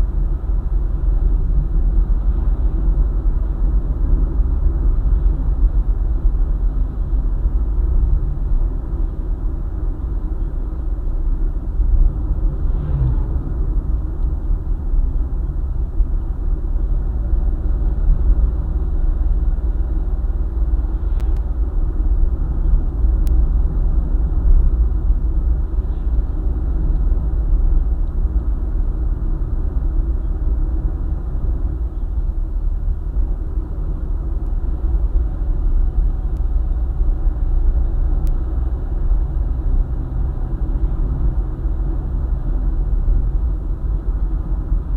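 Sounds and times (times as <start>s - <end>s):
car engine and tyre noise: 0.0s - 44.9s.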